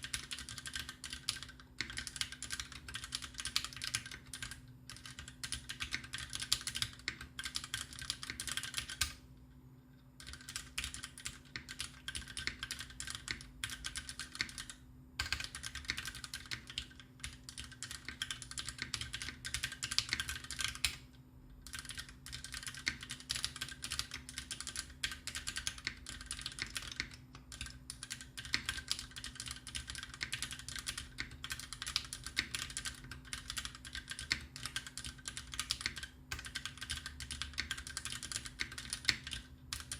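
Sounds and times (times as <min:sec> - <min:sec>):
fast typing on mechanical keyboard: 0:00.0 - 0:09.2, 0:10.2 - 0:21.0, 0:21.6 - 0:39.9.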